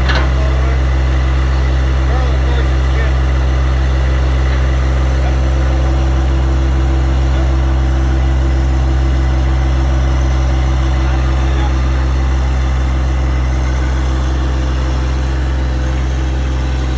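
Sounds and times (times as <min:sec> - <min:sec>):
tractor engine droning: 0:00.0 - 0:16.9.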